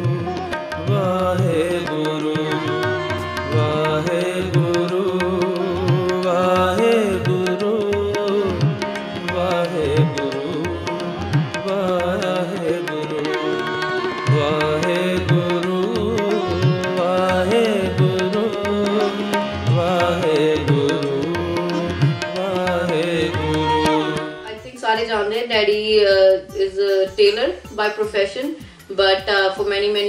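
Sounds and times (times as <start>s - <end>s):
tabla strokes: 0.0s - 24.4s
person singing devotional melody: 0.0s - 30.0s.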